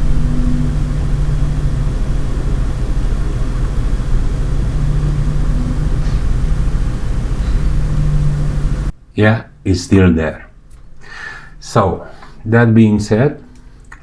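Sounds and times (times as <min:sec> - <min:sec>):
computer case fans humming: 0:00.0 - 0:14.0.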